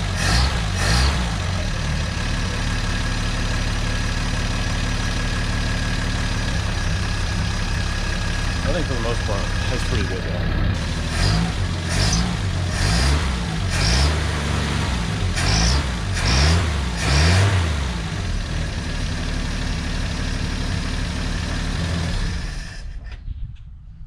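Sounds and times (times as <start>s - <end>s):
car engine revving and idling: 0.0s - 23.1s.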